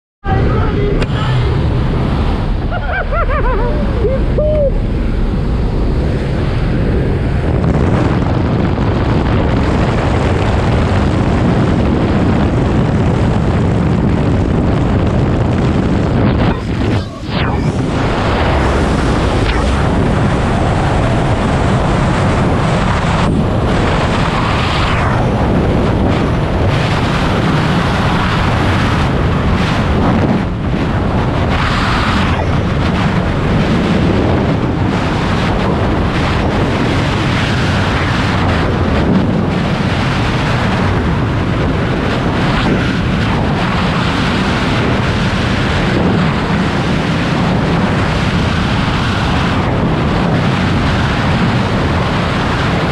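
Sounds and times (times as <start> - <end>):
wind rushing over microphone: 0.2 - 52.9.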